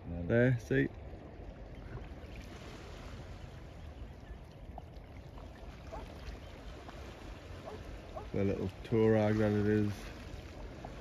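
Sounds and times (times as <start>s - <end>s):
sea water washing on shore: 0.0s - 11.0s.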